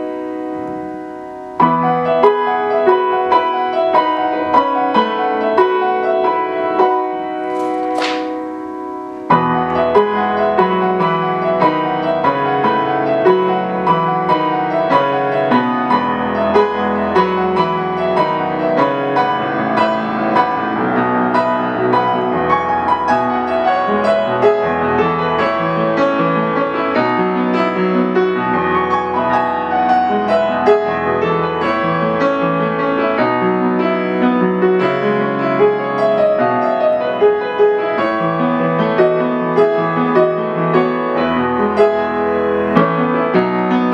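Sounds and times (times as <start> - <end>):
solo piano piece: 0.0 - 43.9.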